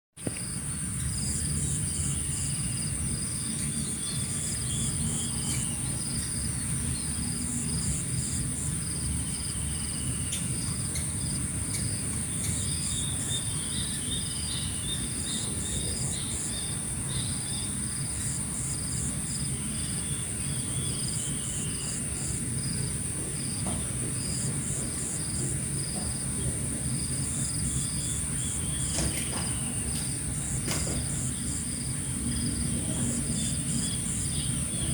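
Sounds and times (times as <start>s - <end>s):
crickets chirping: 0.2s - 34.9s
birds calling: 0.3s - 34.9s.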